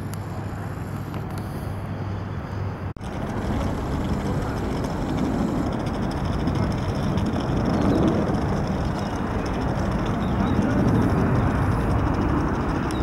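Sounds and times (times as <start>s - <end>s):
jet airliner engine rumble: 0.0s - 13.0s.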